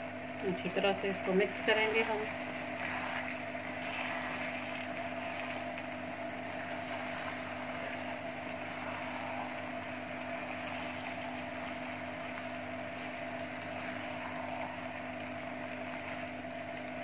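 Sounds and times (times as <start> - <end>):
machine hum: 0.0 - 17.0
curry sizzling in oil: 1.3 - 17.0
spatula stirring in pan: 1.3 - 17.0.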